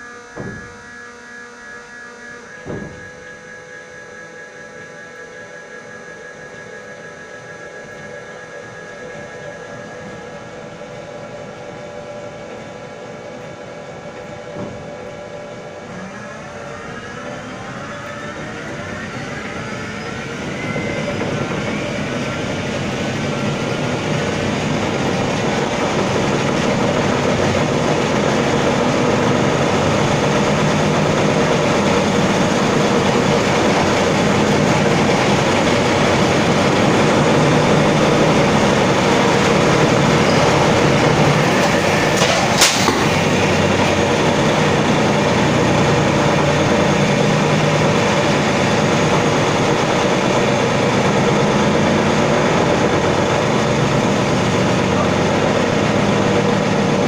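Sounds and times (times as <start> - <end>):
electric motor drone: 0.0 - 57.0.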